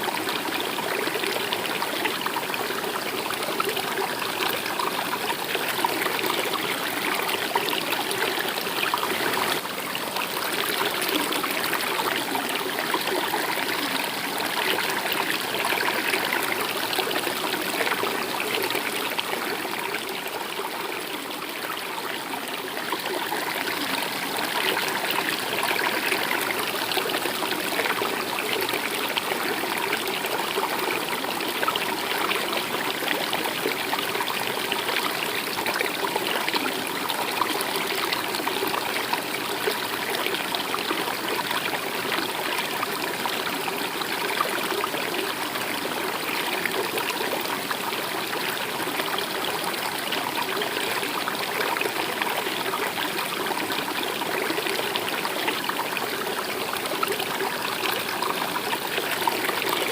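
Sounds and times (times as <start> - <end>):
stream of water running: 0.0 - 59.9.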